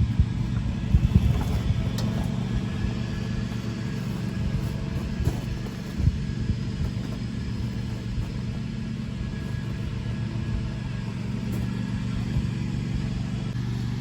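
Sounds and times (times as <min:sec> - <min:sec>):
vehicle hoist motor hum: 0:00.0 - 0:14.0.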